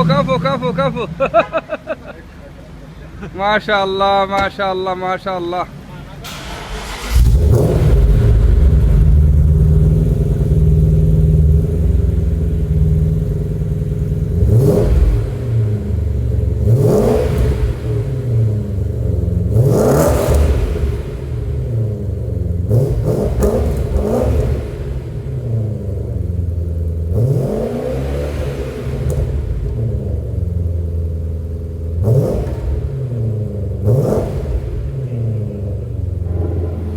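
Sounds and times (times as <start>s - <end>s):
car engine revving: 5.7s - 36.9s.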